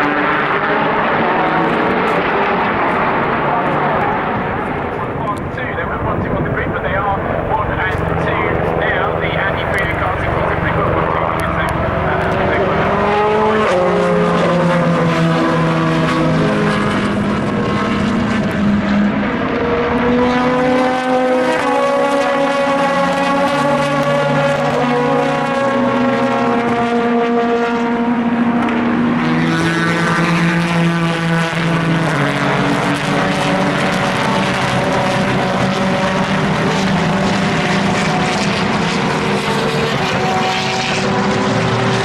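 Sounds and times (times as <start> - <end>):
race car engines shifting gears: 0.1 - 42.0.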